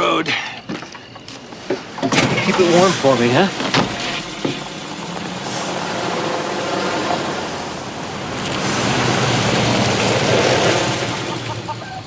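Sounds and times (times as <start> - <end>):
car engine running: 2.1 - 12.0.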